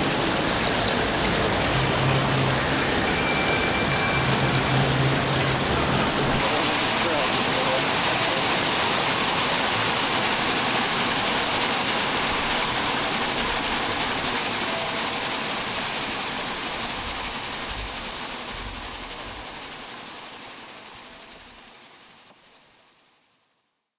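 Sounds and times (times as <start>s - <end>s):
rushing water: 0.0s - 23.2s.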